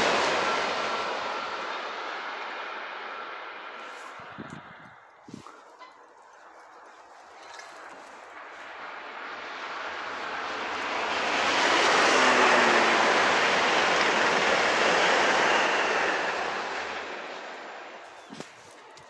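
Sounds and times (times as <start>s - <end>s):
high-speed train passing: 0.0s - 19.0s.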